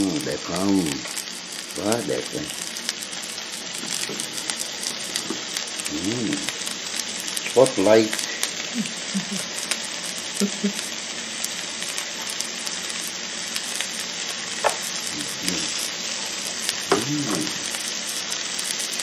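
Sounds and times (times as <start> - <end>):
steak sizzling on a grill: 0.0 - 19.0.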